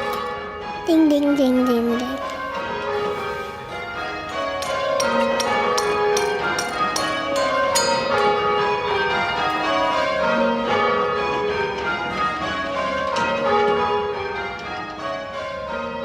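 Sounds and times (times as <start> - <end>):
church bells rung in rounds: 0.0 - 16.0.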